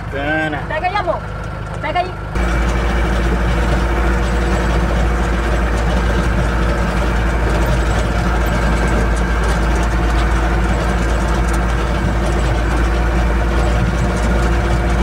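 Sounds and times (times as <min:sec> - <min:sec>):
truck engine and road drone: 0:00.0 - 0:15.0
faint rattles: 0:02.4 - 0:15.0.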